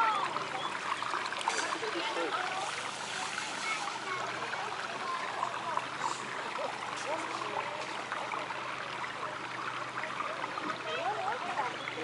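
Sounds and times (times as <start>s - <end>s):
faint chatter of voices: 0.0s - 12.0s
trickling water: 0.0s - 12.0s.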